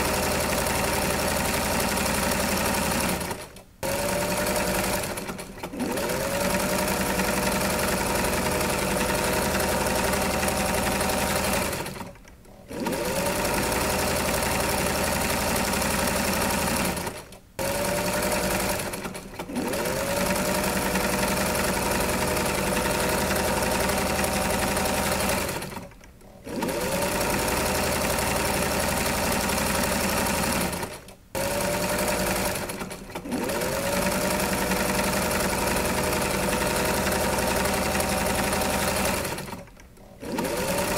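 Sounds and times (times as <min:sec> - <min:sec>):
electric sewing machine running: 0:00.0 - 0:40.9.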